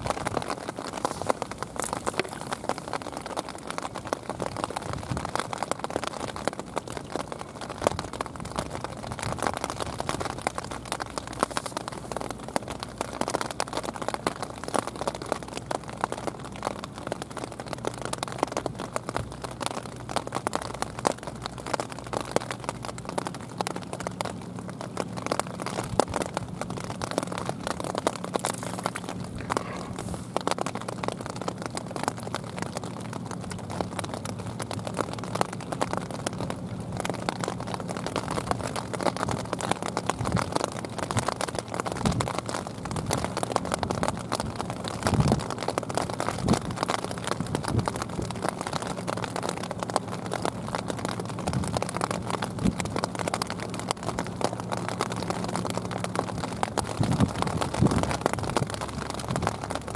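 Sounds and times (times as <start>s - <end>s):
low steady hum: 0.0s - 59.9s
steady rain pattering: 0.0s - 59.9s.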